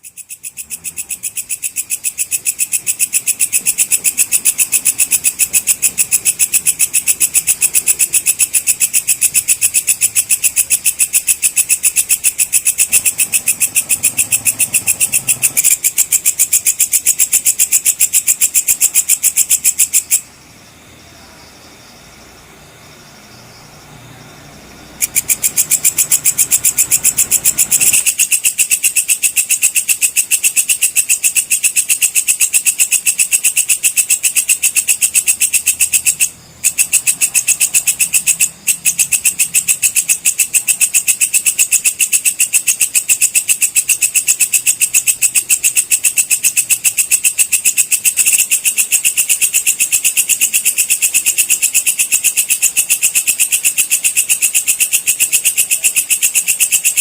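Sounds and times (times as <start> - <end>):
insect rapid pulsing trill: 0.0 - 57.0.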